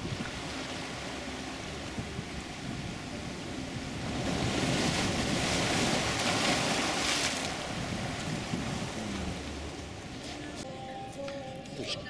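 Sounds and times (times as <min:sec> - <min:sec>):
ocean surf on rocks: 0:00.0 - 0:10.1.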